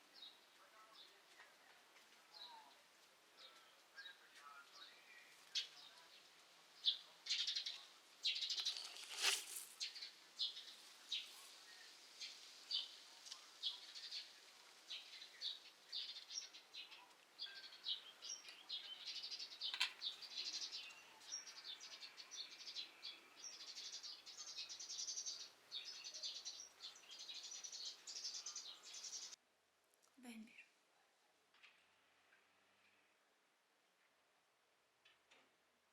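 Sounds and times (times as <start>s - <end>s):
songbirds chirping: 0.0s - 29.4s.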